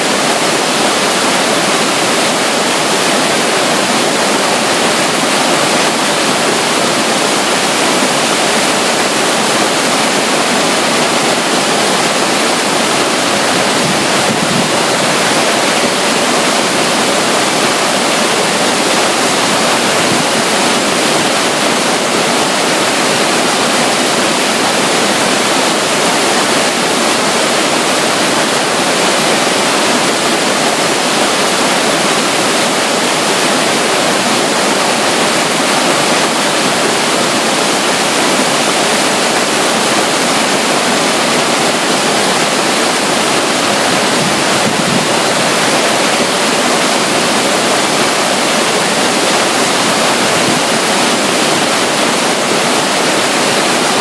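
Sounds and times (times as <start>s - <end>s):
rushing stream and waterfall: 0.0s - 54.0s.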